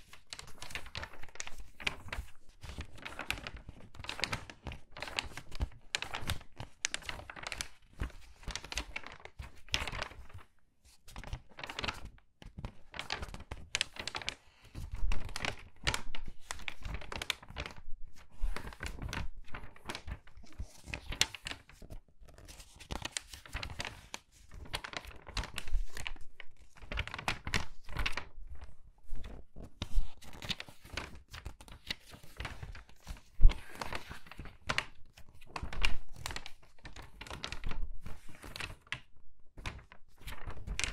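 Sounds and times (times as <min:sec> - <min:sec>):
magazine pages rustling: 0:00.0 - 0:40.9.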